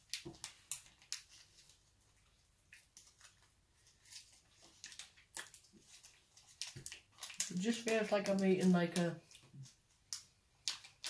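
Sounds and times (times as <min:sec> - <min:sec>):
plastic packet crinkling: 0:00.0 - 0:11.0.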